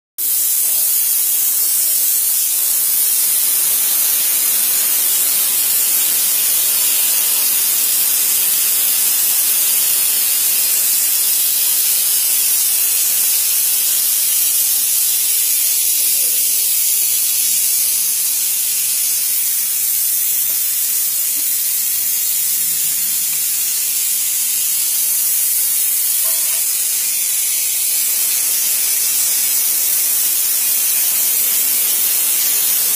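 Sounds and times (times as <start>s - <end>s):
steam hissing from pipe: 0.2s - 32.9s.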